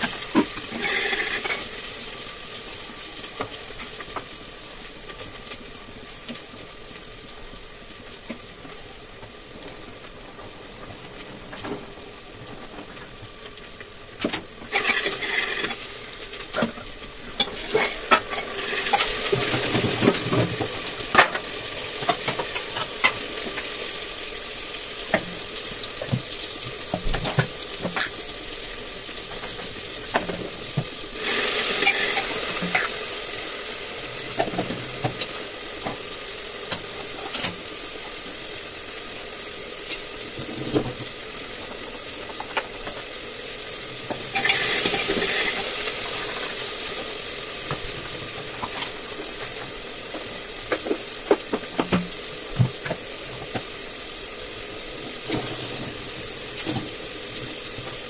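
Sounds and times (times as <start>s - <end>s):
food sizzling in a pot: 0.0s - 58.0s.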